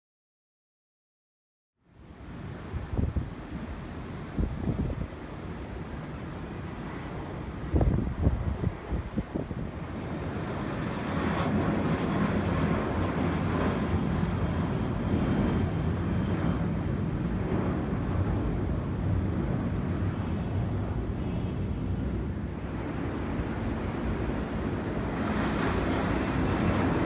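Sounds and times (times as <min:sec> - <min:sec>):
distant jet engines rushing: 0:01.9 - 0:27.0.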